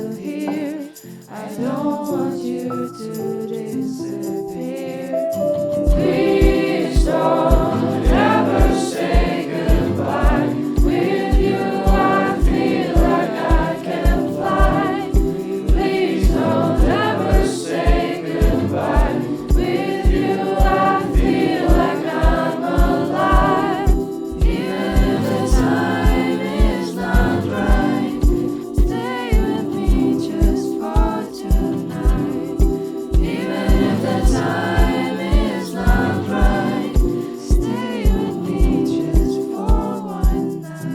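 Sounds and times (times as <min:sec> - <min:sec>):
voices singing together: 0:00.0 - 0:40.9
kick drum beat: 0:05.9 - 0:40.5.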